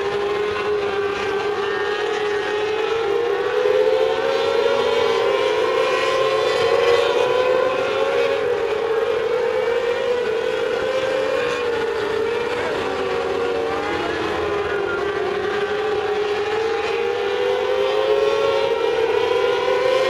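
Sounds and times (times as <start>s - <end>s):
race car engines whining: 0.0s - 20.0s.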